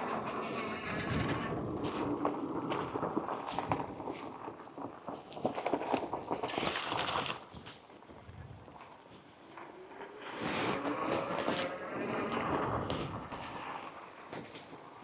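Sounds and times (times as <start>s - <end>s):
bicycle tires rolling: 0.0s - 15.0s.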